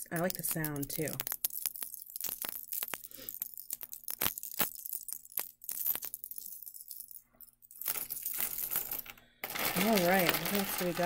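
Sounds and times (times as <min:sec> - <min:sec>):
necklace pieces clinking: 0:00.0 - 0:11.0.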